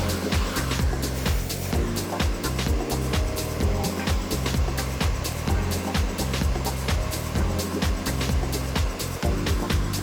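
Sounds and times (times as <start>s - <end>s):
background music with beat and bass: 0.0s - 10.0s.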